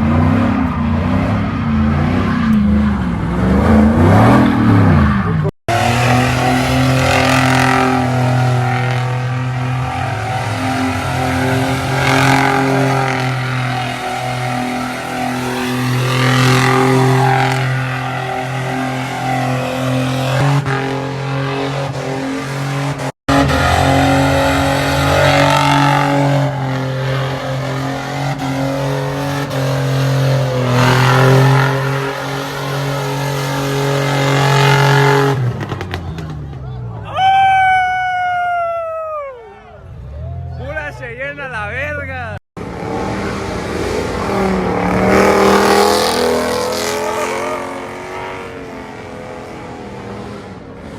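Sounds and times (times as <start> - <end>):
car engines revving: 0.0 - 37.8, 39.1 - 50.9
cars passing: 0.0 - 50.9.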